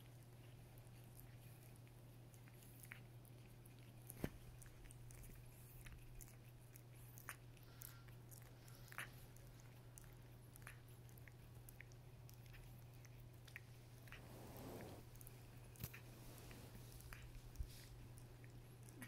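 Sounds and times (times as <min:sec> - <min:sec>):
cat licking fur: 0:00.0 - 0:19.0
low steady hum: 0:00.0 - 0:19.0.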